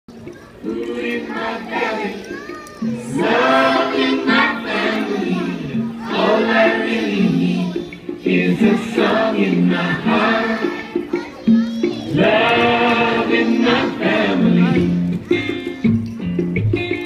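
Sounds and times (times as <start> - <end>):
children's choir singing: 0.2 - 15.3.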